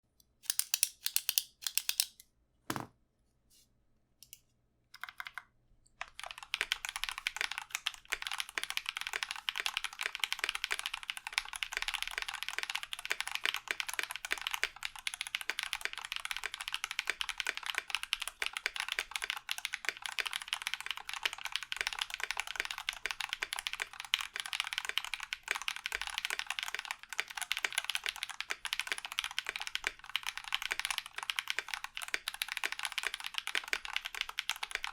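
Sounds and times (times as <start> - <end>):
typing on mechanical keyboard: 0.5 - 2.8, 5.0 - 34.9.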